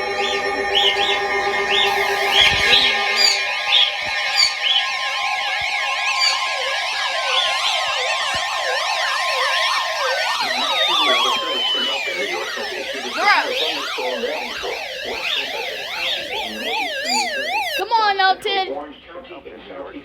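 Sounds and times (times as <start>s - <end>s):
electronic siren-like warbles: 0.0s - 17.8s
slow falling tones: 0.0s - 17.8s
steady high tone: 0.0s - 17.9s.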